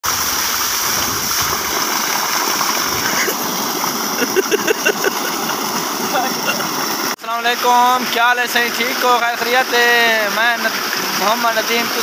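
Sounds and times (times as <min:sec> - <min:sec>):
water jet splashing into pool: 0:00.0 - 0:12.0.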